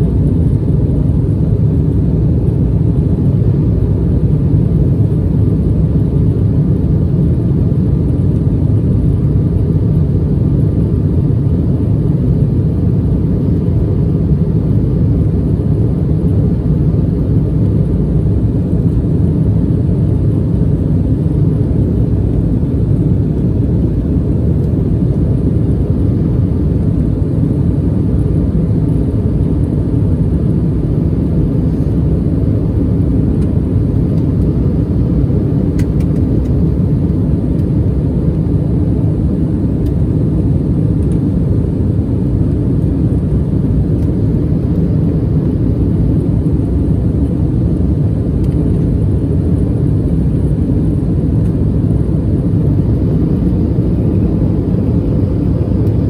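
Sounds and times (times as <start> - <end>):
jet engines at climb power: 0.0 - 56.0.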